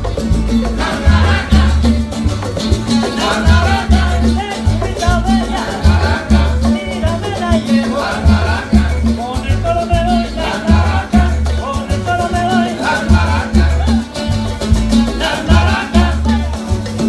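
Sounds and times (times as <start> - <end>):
salsa music: 0.0 - 17.0.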